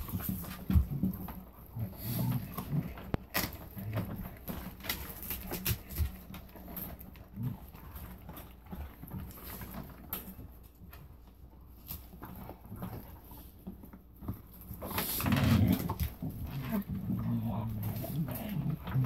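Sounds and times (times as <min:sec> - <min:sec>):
dog chewing meat and bone: 0:00.0 - 0:19.0.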